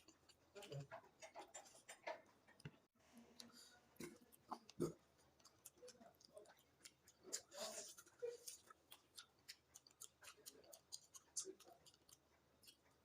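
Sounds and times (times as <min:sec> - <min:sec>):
mouth chewing food: 0:00.0 - 0:13.0.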